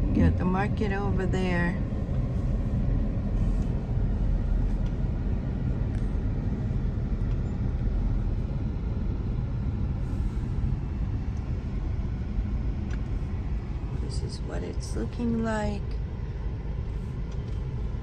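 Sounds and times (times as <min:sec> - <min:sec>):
car engine and tyre noise: 0:00.0 - 0:18.0.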